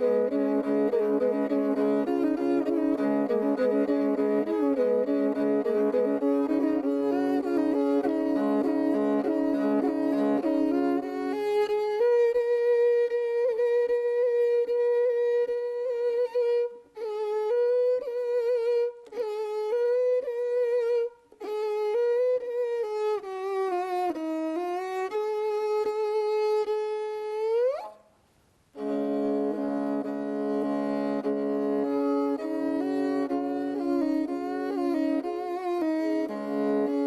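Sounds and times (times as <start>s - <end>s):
bowed string instrument melody: 0.0s - 28.1s, 28.7s - 37.0s.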